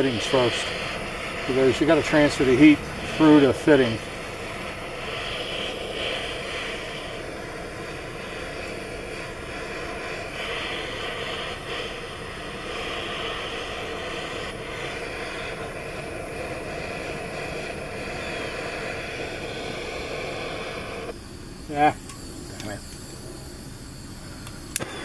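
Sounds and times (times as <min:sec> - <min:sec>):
gas torch flame hissing: 0:00.0 - 0:25.0.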